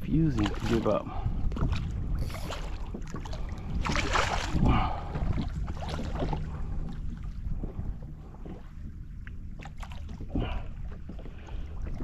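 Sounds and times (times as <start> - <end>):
water splashing against kayak: 0.0 - 12.0
wind on microphone: 0.0 - 12.0.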